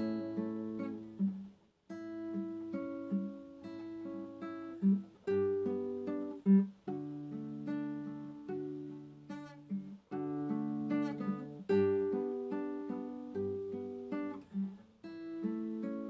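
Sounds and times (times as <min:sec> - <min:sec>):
acoustic guitar strummed softly: 0:00.0 - 0:16.0.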